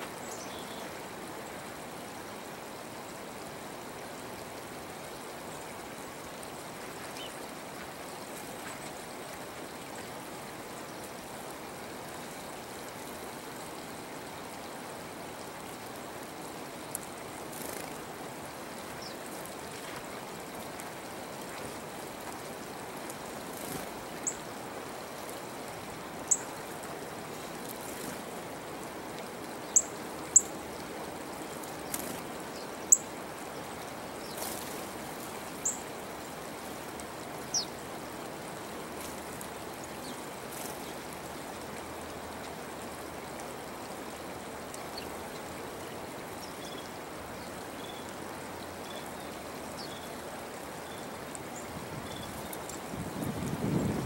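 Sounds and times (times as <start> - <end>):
water flowing: 0.0 - 54.0.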